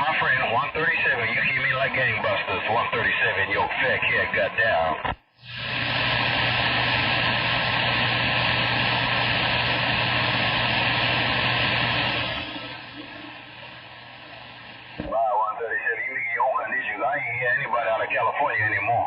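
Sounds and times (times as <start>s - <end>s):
faint hum: 0.0s - 19.0s
radio static hiss: 0.0s - 19.0s.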